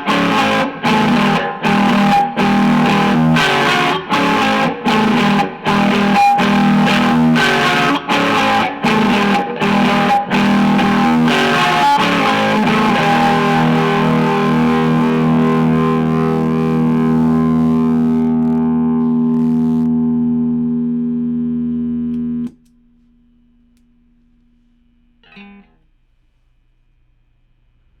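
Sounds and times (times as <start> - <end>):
distorted electric guitar chords: 0.0 - 22.6, 25.1 - 25.8.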